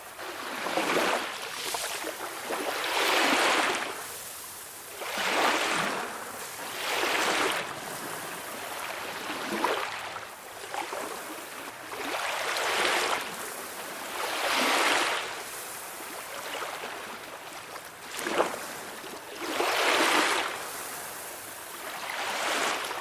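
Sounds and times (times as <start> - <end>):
sea waves washing onto shore: 0.0 - 23.0.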